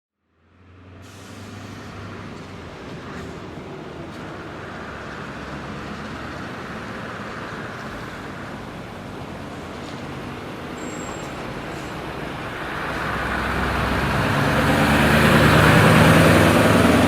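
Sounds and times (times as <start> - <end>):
heavy truck engine: 0.3 - 17.0.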